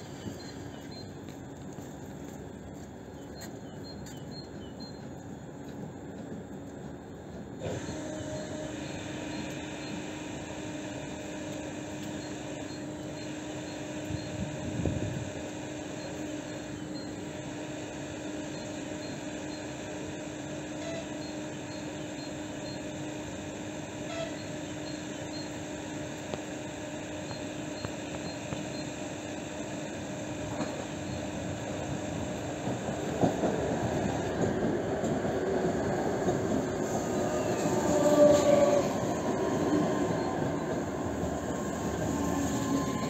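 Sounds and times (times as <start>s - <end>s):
faint high-pitched beeping: 0.0s - 2.4s, 3.1s - 5.5s, 8.0s - 32.7s, 36.8s - 43.0s
train hum and rushing noise: 0.0s - 43.0s.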